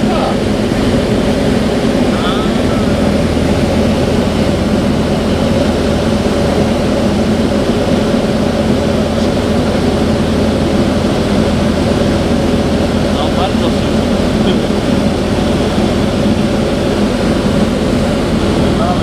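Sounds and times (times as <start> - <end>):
light aircraft engine and propeller: 0.0 - 19.0.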